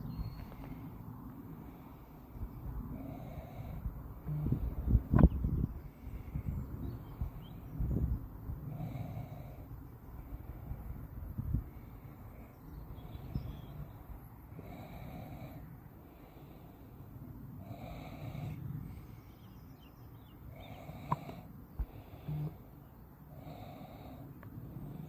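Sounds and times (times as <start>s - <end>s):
person breathing heavily: 0.5s - 6.8s, 8.6s - 19.5s, 20.4s - 25.0s.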